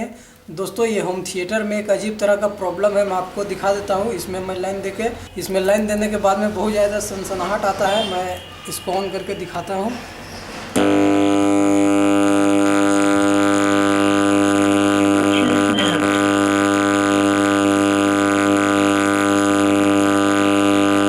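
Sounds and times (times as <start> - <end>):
loud buzzing hum from speakers: 2.4 - 21.0.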